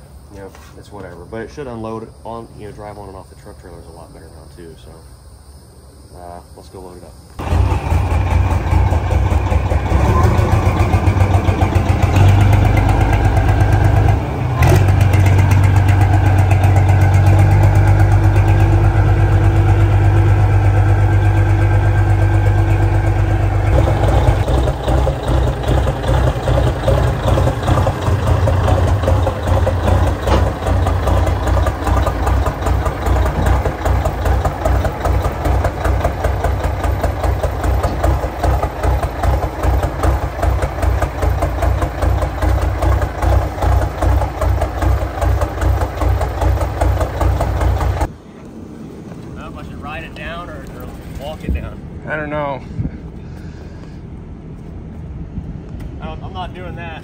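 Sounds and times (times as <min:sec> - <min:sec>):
diesel truck engine rumbling: 0:07.4 - 0:57.0.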